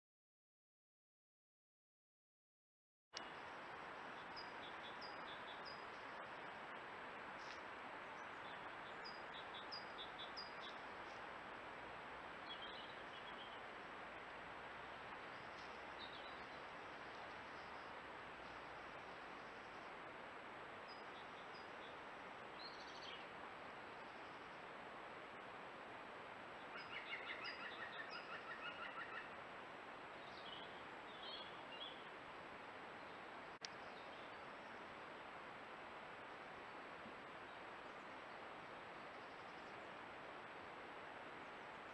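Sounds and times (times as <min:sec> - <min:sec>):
faint steady hiss: 0:03.2 - 0:41.9
songbirds chirping: 0:03.2 - 0:41.9.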